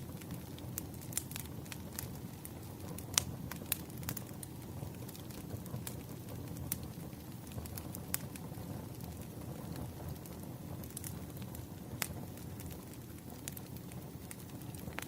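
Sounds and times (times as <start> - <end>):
firewood burning and crackling: 0.0 - 15.0.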